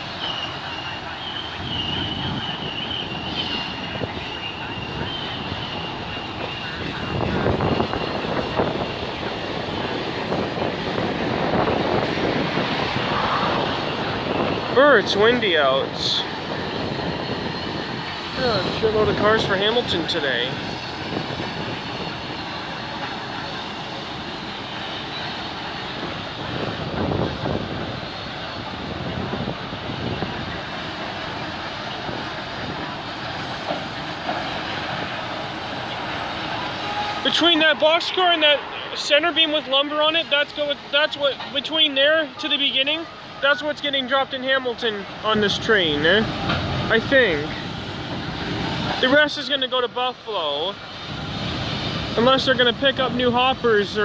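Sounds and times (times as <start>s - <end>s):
freight train cars rolling: 0.0s - 54.0s
wind gusting on microphone: 0.0s - 54.0s.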